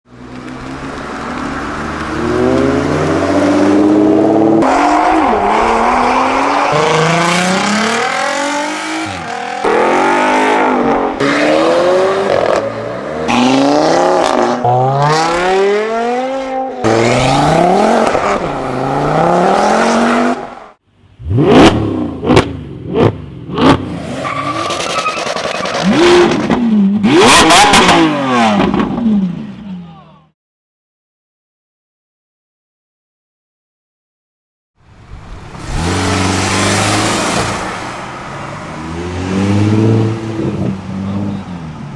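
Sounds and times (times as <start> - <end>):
car engines revving through gears: 0.4 - 29.3, 35.3 - 41.9.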